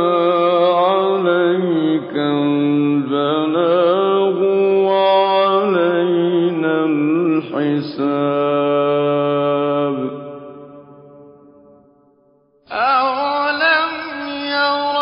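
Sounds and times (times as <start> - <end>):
man reciting melodically: 0.0 - 10.2, 12.7 - 15.0.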